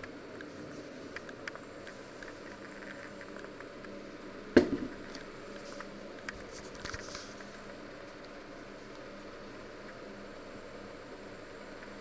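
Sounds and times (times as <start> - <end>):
electric cooktop hum and hiss: 0.0 - 12.0.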